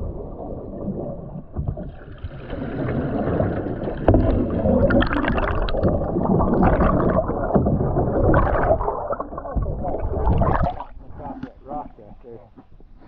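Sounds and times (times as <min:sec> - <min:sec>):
water gurgling and splashing: 0:00.0 - 0:12.1.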